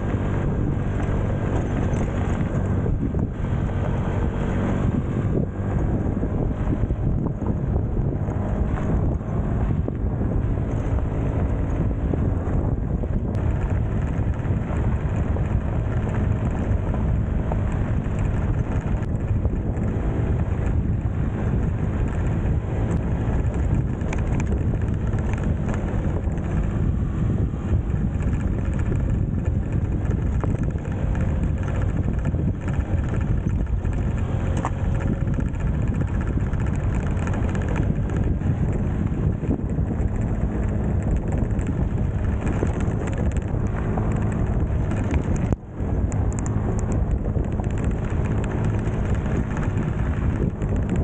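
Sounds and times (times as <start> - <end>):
motorbike engine running: 0.0 - 51.0
wind buffeting microphone: 0.0 - 51.0.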